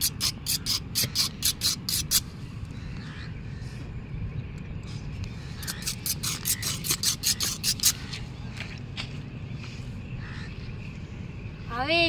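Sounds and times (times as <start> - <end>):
low steady rumble: 2.2 - 12.0.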